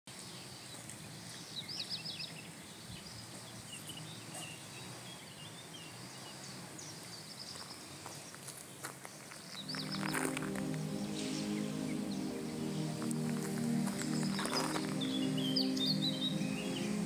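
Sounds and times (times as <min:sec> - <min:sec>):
low background noise: 0:00.1 - 0:17.0
songbirds singing: 0:00.1 - 0:17.0.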